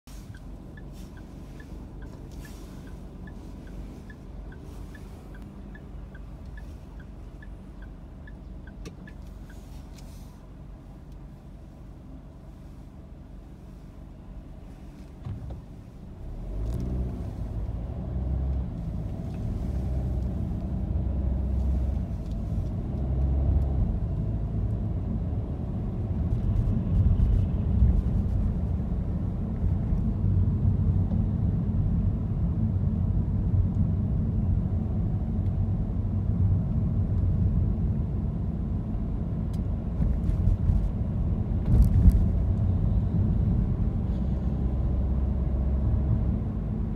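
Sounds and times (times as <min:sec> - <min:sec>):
car engine accelerating: 0:00.1 - 0:11.4, 0:13.6 - 0:46.9.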